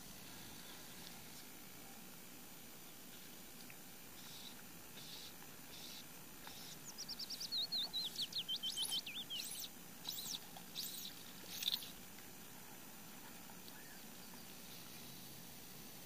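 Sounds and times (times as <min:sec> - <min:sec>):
songbird singing: 0:02.7 - 0:16.0.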